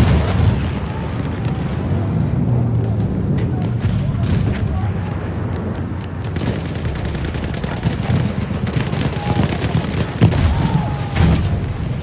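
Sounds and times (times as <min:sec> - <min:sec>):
artillery rumble: 0:00.0 - 0:12.0
heavy explosion boom: 0:00.0 - 0:12.0
rifle and machine-gun fire: 0:00.0 - 0:12.0.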